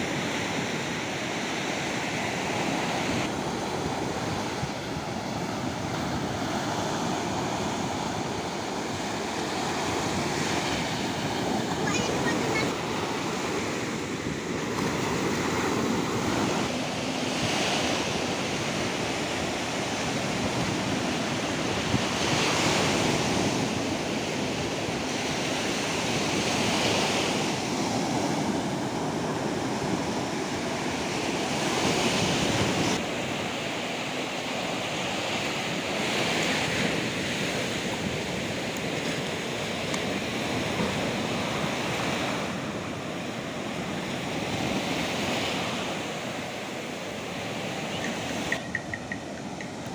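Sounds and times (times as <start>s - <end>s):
sea waves breaking on beach: 0.0s - 49.9s.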